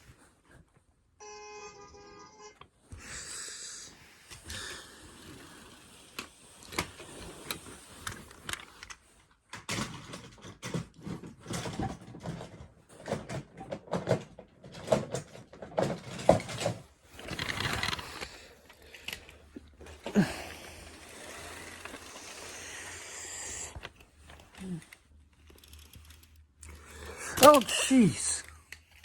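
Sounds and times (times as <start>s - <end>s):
toy cars clicking and clattering: 4.3s - 29.0s.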